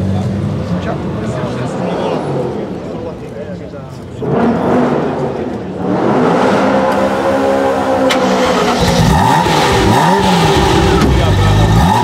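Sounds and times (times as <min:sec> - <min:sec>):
sports car engine idling and revving: 0:00.0 - 0:12.0.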